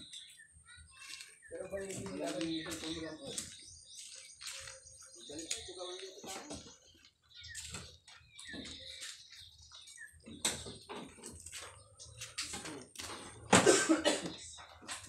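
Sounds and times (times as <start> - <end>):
footsteps crunching on gravel: 0.1 - 13.5.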